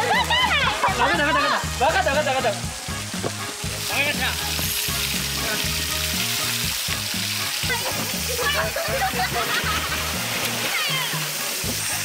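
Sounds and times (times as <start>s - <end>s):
background music with beat: 0.0s - 12.0s
pool water spraying and splashing: 0.0s - 12.0s.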